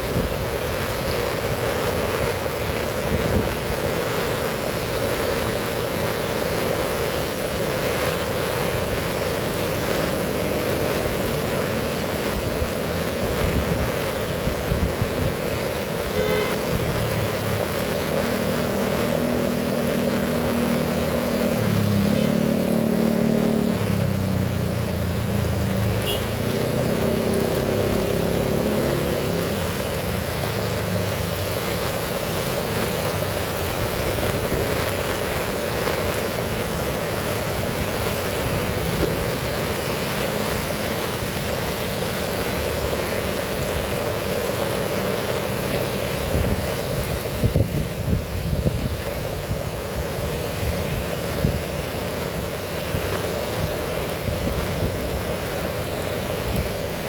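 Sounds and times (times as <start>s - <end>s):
heavy rain pouring: 0.0s - 57.0s
low engine hum: 8.3s - 57.0s.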